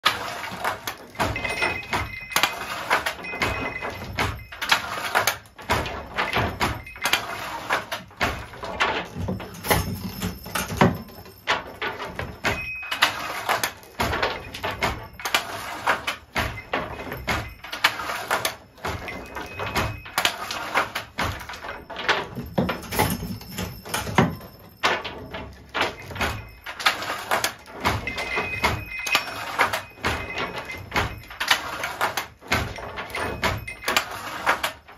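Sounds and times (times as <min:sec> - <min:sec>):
loom squeaks: 0:00.0 - 0:34.9
wooden loom clacking: 0:00.0 - 0:34.9.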